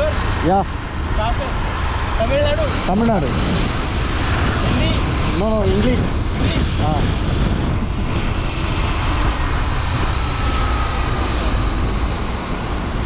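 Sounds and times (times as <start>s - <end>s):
faint high whine: 0.0s - 13.0s
motorcycle rumble: 0.0s - 13.0s
wind buffeting microphone: 0.0s - 13.0s.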